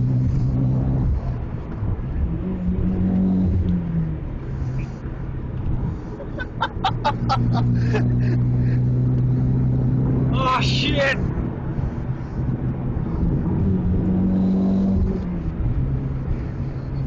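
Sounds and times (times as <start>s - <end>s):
car engine droning under load: 0.0s - 17.0s.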